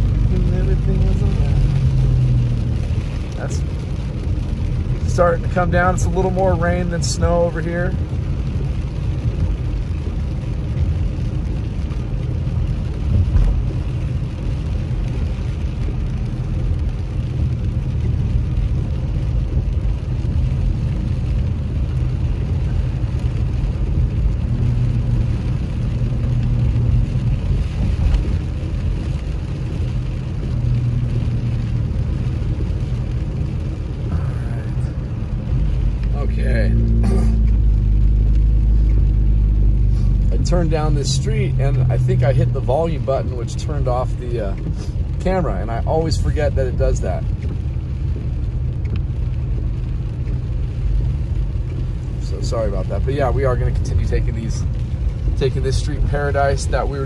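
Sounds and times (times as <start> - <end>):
car driving on wet road: 0.0 - 57.0.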